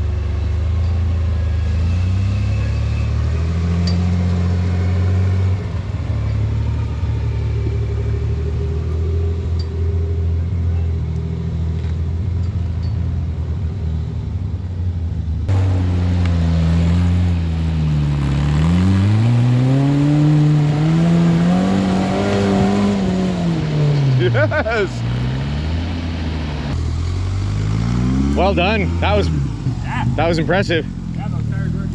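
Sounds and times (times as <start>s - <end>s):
off-road vehicle engine revving: 0.0s - 31.9s.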